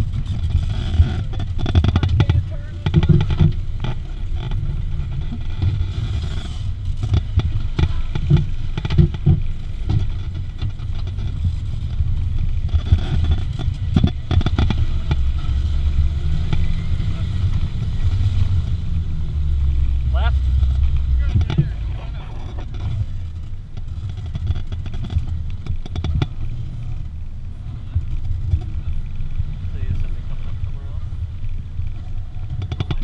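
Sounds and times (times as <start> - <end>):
vehicle knocks and rattles: 0.0 - 29.6, 31.8 - 33.0
engine running at low revs: 0.0 - 33.0.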